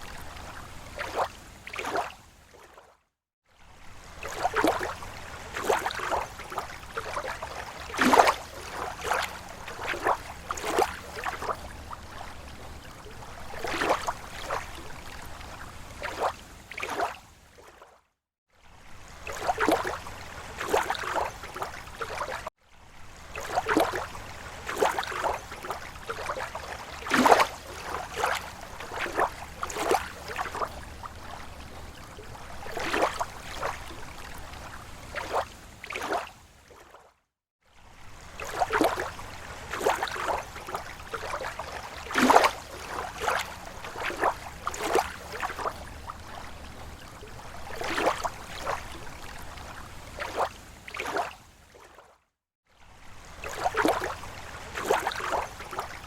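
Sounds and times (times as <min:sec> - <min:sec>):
small waves lapping at shore: 0:00.0 - 0:56.0.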